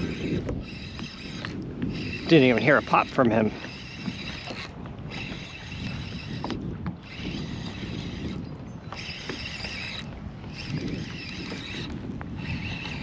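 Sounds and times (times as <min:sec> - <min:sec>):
fishing reel cranking: 0:00.0 - 0:13.0
water lapping at a kayak: 0:00.0 - 0:13.0
wind on microphone: 0:00.0 - 0:13.0.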